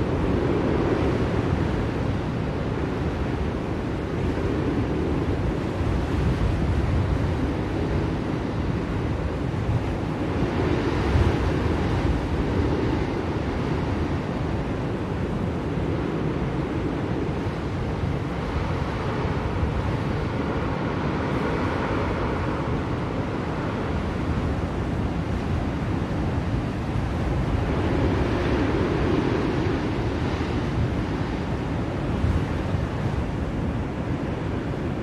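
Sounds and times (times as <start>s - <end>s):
blizzard wind blowing: 0.0s - 35.0s.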